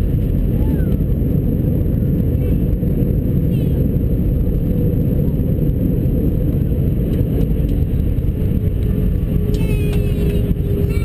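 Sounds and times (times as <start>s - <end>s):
jet airliner cabin rumble: 0.0s - 11.0s.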